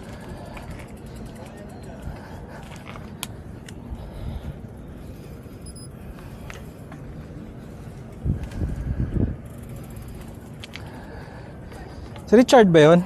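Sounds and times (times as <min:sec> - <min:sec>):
bicycle ride rumble: 0:00.0 - 0:13.0.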